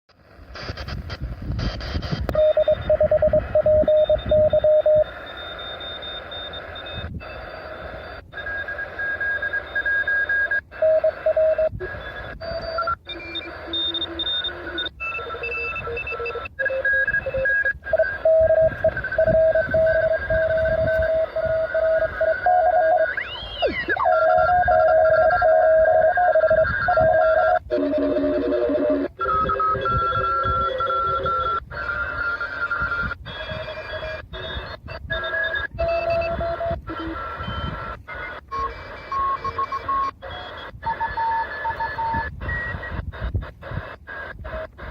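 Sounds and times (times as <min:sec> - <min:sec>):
steady radio hiss: 0:00.1 - 0:44.9
morse code beeps: 0:00.6 - 0:44.9.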